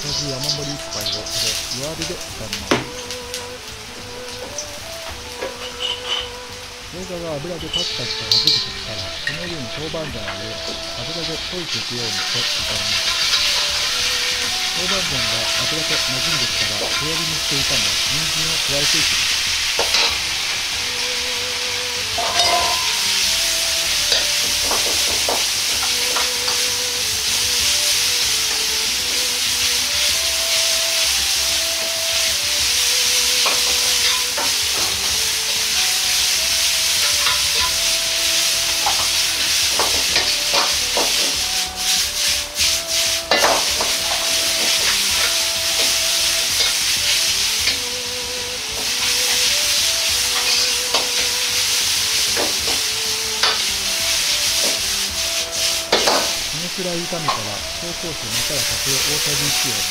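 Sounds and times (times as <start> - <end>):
metal ladle scraping wok: 0.0 - 7.0, 7.6 - 48.0, 48.6 - 59.9
vegetables sizzling in hot oil: 0.0 - 59.9.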